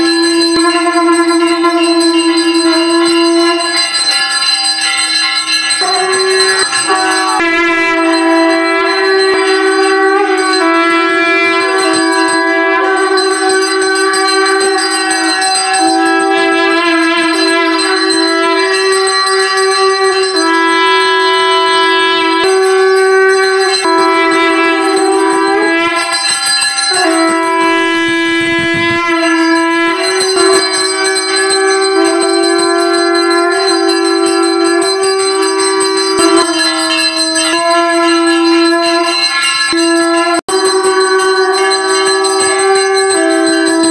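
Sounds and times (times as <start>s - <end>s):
bells ringing: 0.0s - 43.9s
wind instrument long notes: 0.0s - 43.9s.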